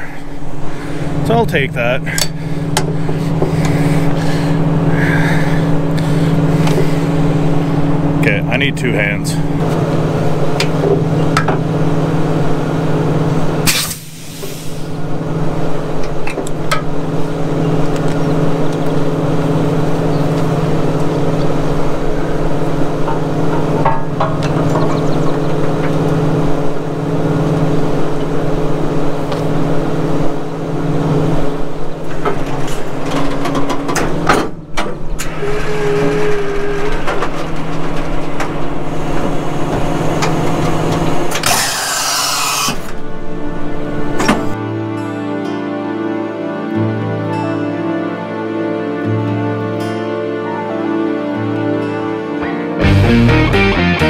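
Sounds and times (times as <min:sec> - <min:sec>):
diesel truck engine idling: 0:00.0 - 0:44.6.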